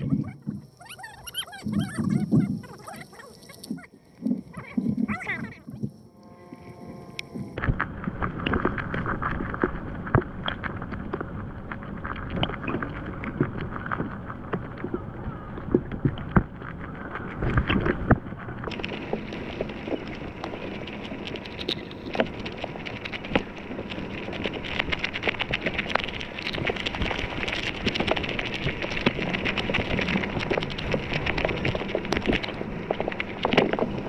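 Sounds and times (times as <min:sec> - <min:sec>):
crackling and sharp ticks: 0:00.0 - 0:34.0
muffled underwater noise: 0:00.0 - 0:34.0.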